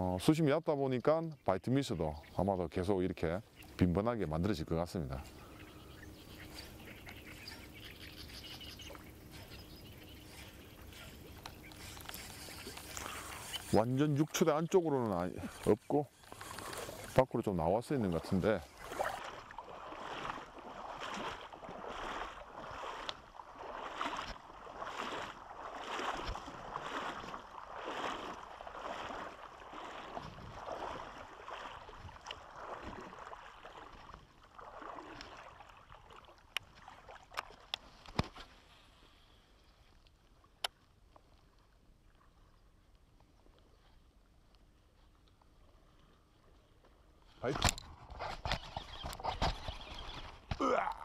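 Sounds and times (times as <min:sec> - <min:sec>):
river water sloshing around legs: 0:03.5 - 0:47.3.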